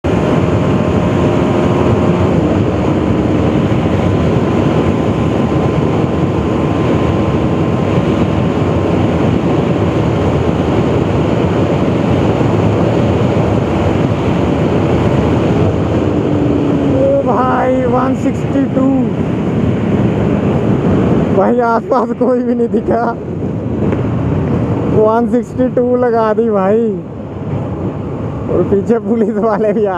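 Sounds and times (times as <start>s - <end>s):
motorcycle engine at high speed: 0.0s - 29.9s
wind rush on microphone: 0.0s - 29.9s.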